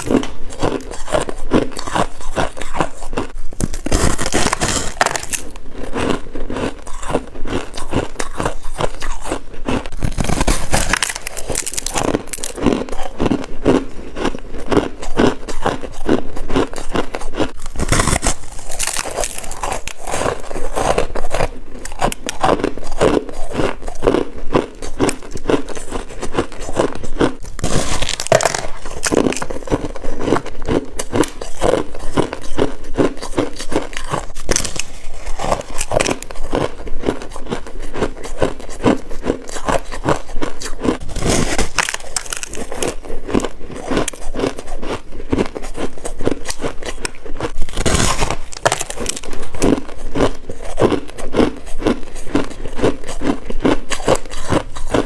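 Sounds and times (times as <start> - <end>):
chewing crunching ice: 0.0 - 55.0
loud crunchy bites: 0.0 - 55.0.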